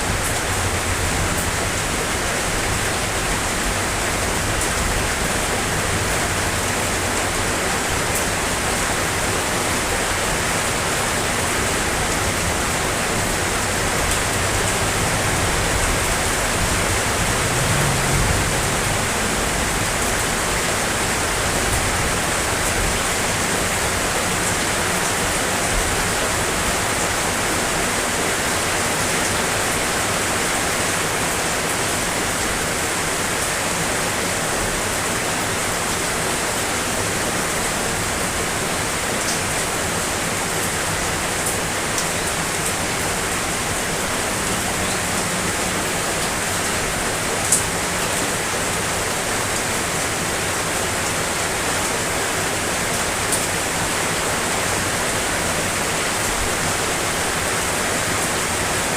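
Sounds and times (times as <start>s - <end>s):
dense rain hiss: 0.0s - 58.9s.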